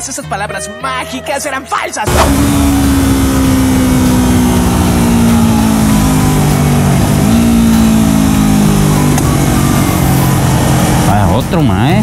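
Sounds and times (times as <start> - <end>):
motorcycle engine revs: 2.1 - 12.0.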